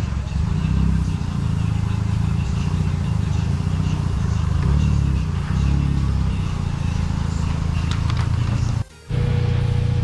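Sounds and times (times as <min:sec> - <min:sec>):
road noise: 0:00.0 - 0:10.0
small car engine droning: 0:00.0 - 0:10.0.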